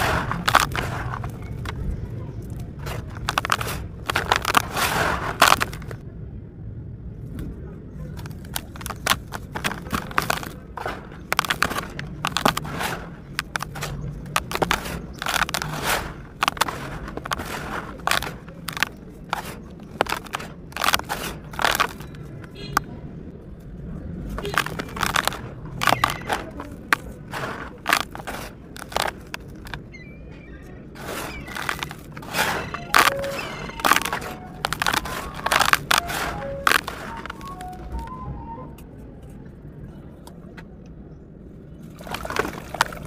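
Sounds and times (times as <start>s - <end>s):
hands crushing dry material: 0.0s - 6.0s, 8.1s - 22.8s, 24.3s - 29.9s, 30.9s - 38.1s, 42.0s - 43.0s.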